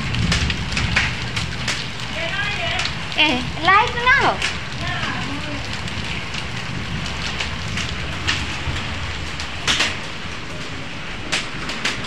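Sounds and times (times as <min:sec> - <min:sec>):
hailstones striking: 0:00.0 - 0:12.0
rain hissing: 0:00.0 - 0:12.0.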